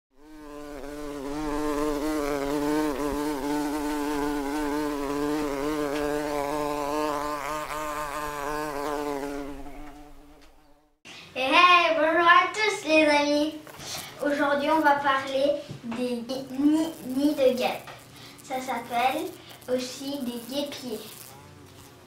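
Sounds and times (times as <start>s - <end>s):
wasp buzzing: 0.1s - 11.0s, 13.9s - 15.3s, 16.2s - 22.0s.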